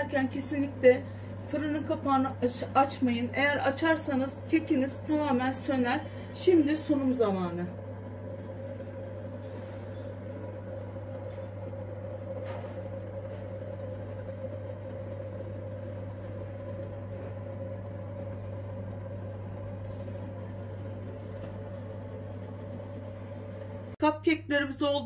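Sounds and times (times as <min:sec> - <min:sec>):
small motor humming and whining: 0:00.0 - 0:24.0.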